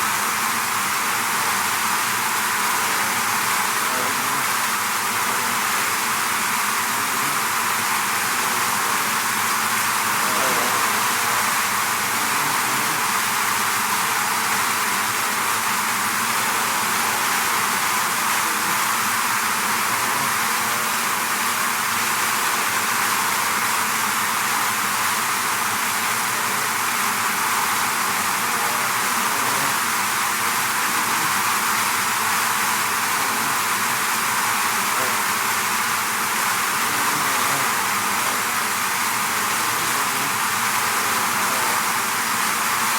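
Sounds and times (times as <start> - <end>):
bee swarm buzzing: 1.2 - 21.0, 26.1 - 42.9.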